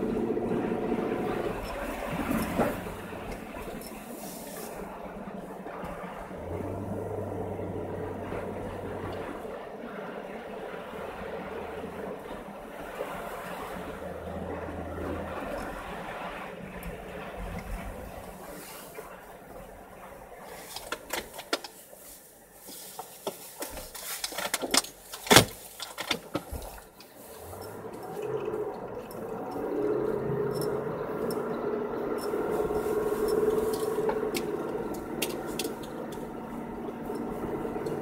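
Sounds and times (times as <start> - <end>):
car engine: 0.0 - 21.7, 24.3 - 38.0
tyres on snow: 0.0 - 38.0.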